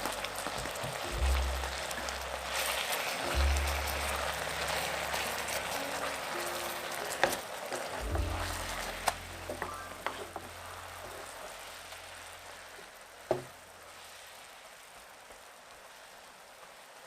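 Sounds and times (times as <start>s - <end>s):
steak sizzling in a pan: 0.0s - 17.0s.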